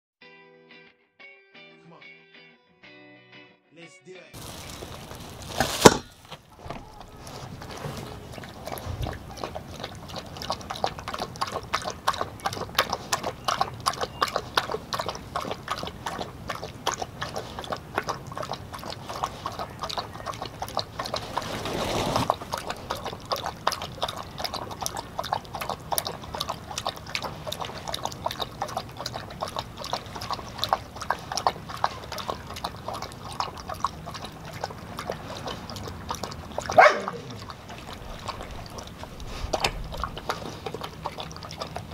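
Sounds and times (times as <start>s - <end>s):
dog chewing and lapping: 4.4s - 41.9s.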